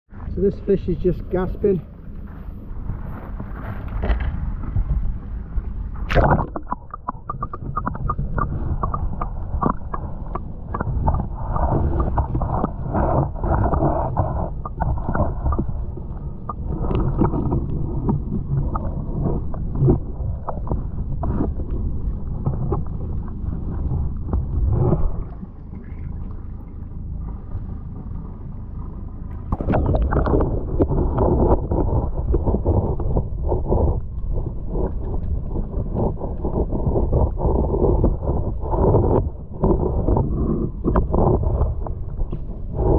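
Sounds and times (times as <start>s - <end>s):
water lapping and splashing: 0.1s - 42.9s
wind rumbling on microphone: 0.1s - 42.9s.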